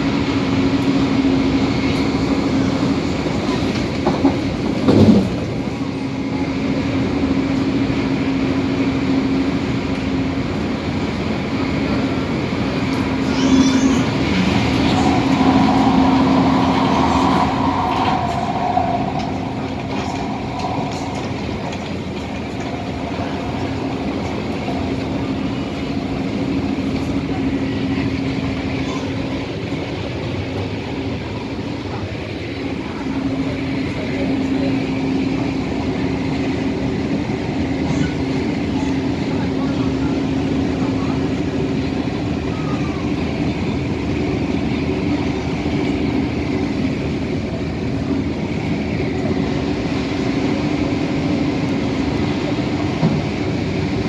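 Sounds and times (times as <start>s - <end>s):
high train whine: 0.0s - 54.0s
train wheels rumbling on track: 0.0s - 54.0s.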